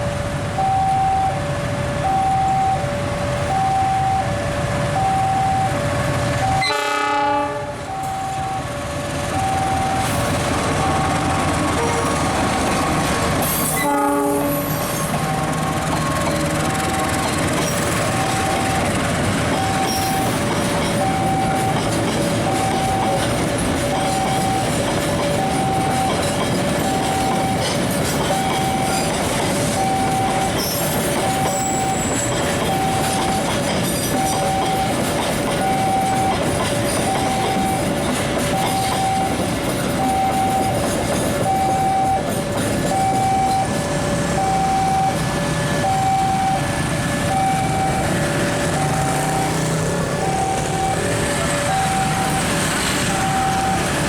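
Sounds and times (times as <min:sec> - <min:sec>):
two-tone level-crossing alarm: 0:00.0 - 0:54.0
train wheels clattering: 0:09.9 - 0:54.0.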